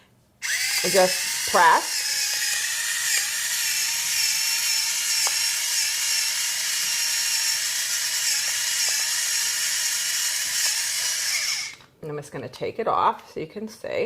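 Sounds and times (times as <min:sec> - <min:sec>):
electric pepper grinder whining: 0:00.4 - 0:11.8.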